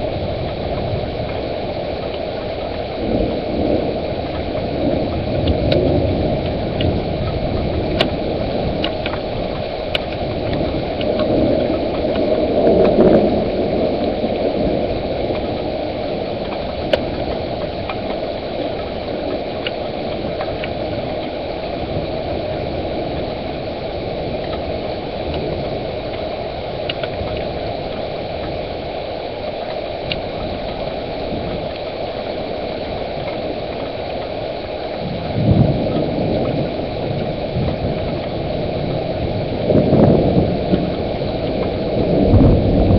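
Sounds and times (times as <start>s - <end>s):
low thunder rumble: 0.0s - 42.9s
rain: 0.0s - 42.9s.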